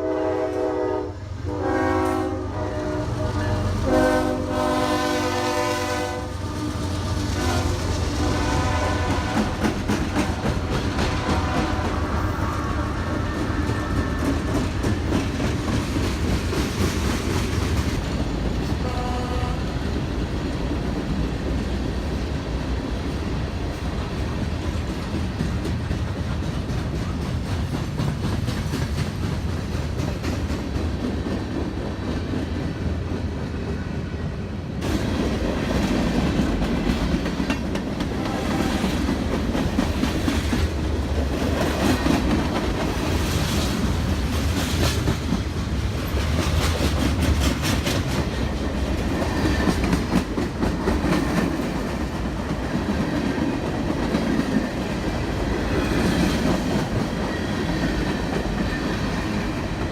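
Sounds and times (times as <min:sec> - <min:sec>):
train wheels clattering on track: 0:00.0 - 0:59.9.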